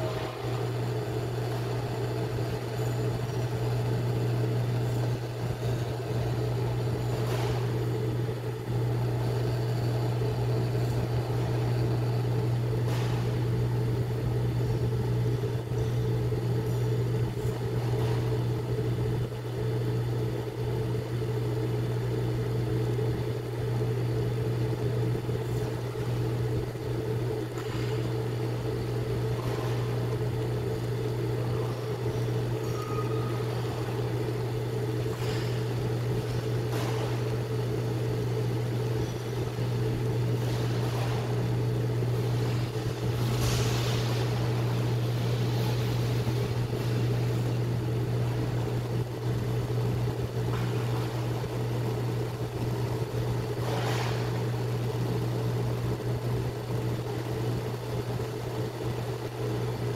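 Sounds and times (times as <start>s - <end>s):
cooker humming: 0.0s - 59.9s.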